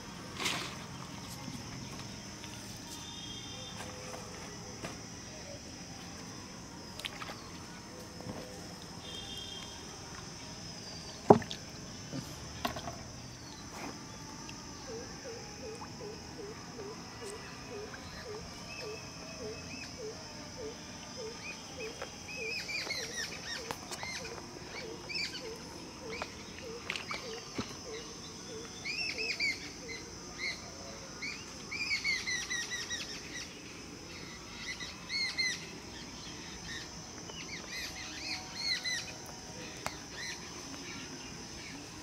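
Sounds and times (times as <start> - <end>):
high insect drone: 0.0 - 42.0.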